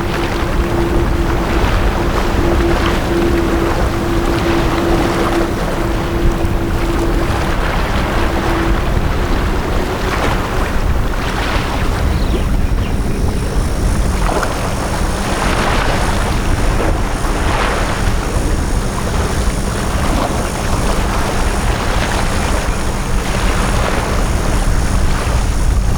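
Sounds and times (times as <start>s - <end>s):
low rumble: 0.0s - 22.0s
steady hum: 0.0s - 25.9s
waves washing onto beach: 0.0s - 25.9s.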